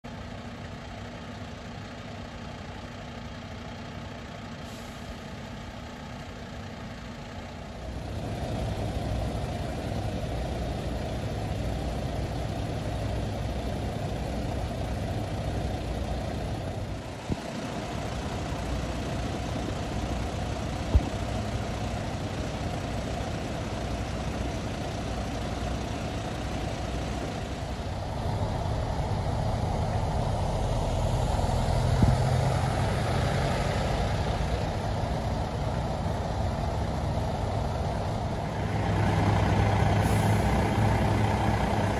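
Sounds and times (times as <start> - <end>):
fire engines idling: 0.0 - 41.9.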